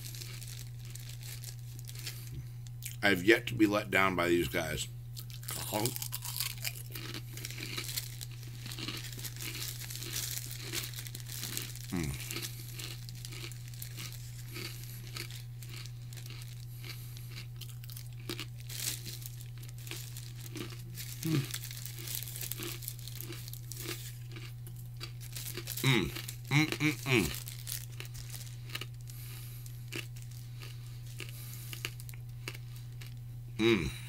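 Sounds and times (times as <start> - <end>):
plastic bag crinkling: 0.0 - 3.0, 5.2 - 33.2
steady low hum: 0.0 - 34.0.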